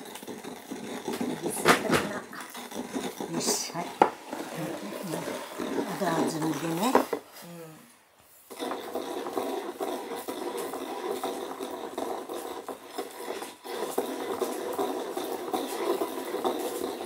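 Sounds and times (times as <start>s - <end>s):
pestle grinding in mortar: 0.0s - 7.3s, 8.4s - 17.0s.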